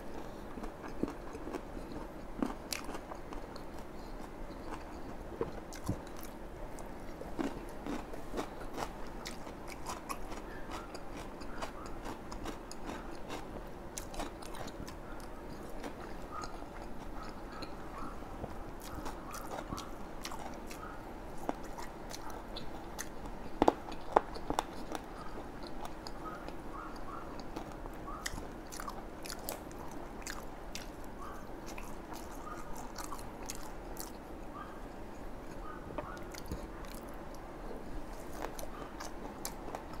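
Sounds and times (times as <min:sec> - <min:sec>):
chewing with crisp crunches: 0:00.0 - 0:40.0.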